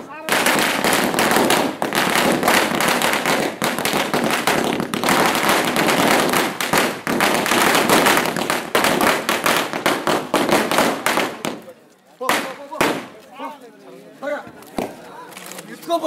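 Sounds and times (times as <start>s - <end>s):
firecrackers exploding: 0.0s - 13.2s.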